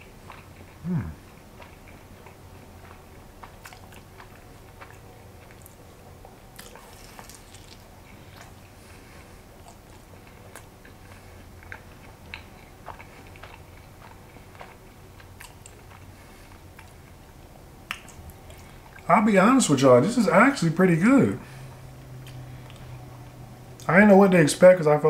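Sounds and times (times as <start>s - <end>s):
person chewing: 0.0s - 19.0s, 21.5s - 23.9s
faint low hum: 0.0s - 25.0s.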